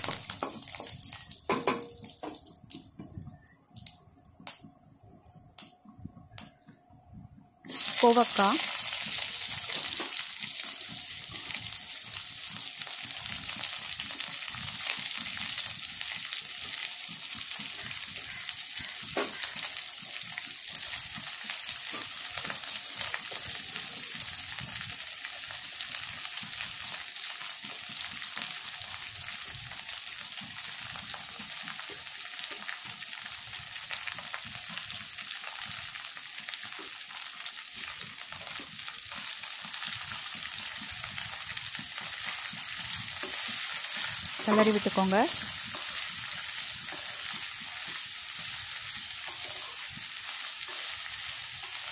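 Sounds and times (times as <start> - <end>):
vegetables sizzling in hot oil: 0.0 - 6.5, 7.6 - 51.9.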